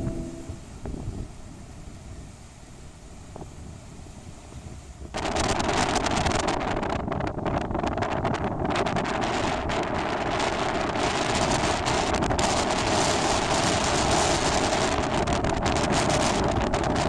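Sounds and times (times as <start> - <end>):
sea waves washing on rocks: 0.0 - 17.0
wind buffeting microphone: 0.0 - 17.0.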